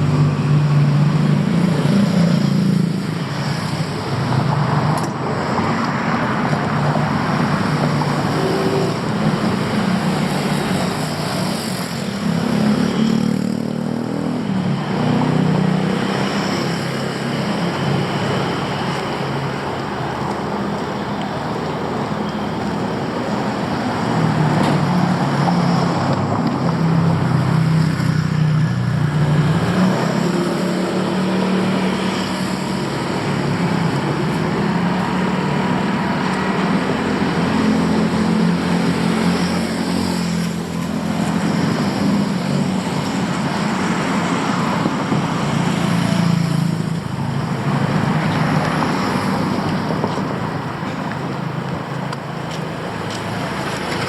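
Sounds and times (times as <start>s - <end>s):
road noise rumble: 0.0s - 54.0s
vehicle engines passing: 0.0s - 54.0s.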